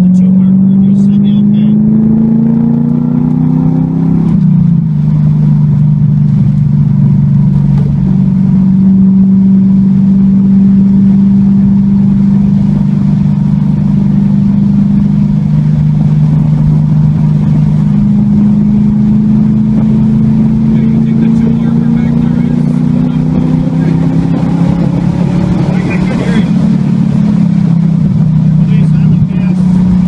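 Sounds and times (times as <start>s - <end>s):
car engine drone inside cabin: 0.0s - 30.0s.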